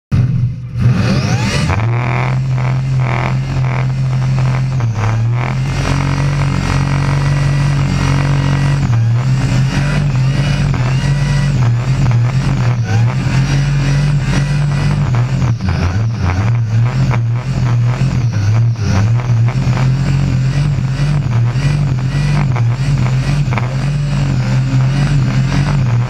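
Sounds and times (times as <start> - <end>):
car engine revving high: 0.1 - 26.0.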